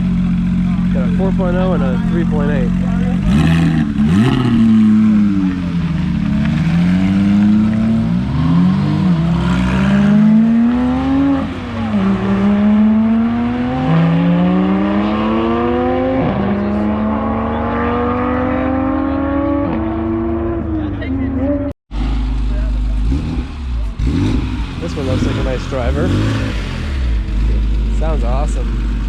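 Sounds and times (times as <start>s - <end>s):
sports car engines accelerating: 0.0s - 29.0s.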